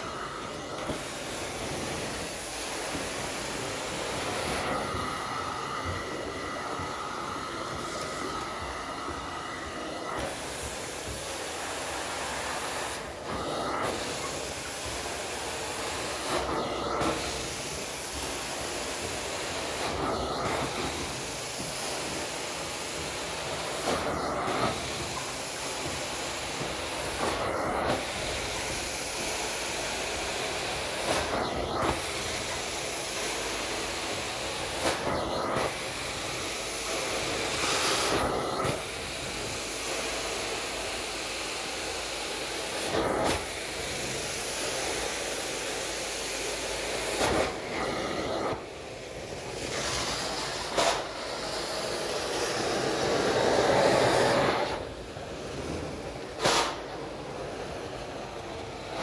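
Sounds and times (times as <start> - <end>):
carpet extraction wand hissing: 0.0 - 59.0.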